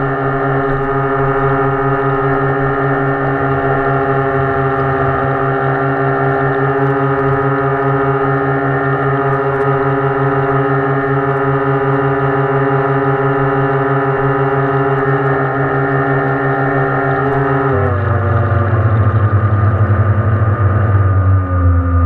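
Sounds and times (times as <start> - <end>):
model boat electric motor hum: 0.0 - 22.0.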